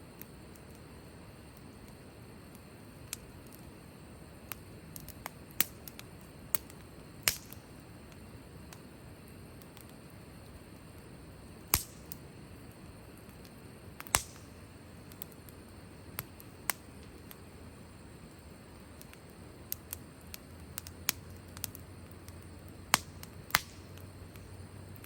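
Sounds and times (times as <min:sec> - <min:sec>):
faint low hiss: 0:00.0 - 0:25.0
firewood crackling: 0:00.0 - 0:25.0.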